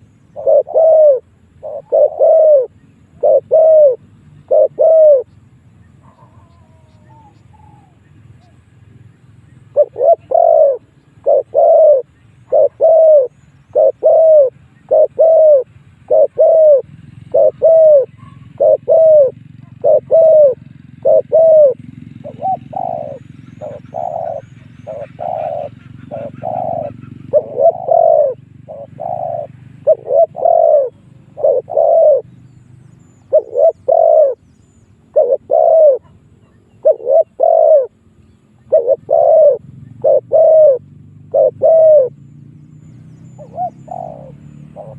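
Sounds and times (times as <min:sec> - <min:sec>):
dove cooing: 0:00.0 - 0:05.3, 0:06.0 - 0:08.6, 0:09.7 - 0:42.3, 0:43.0 - 0:44.9.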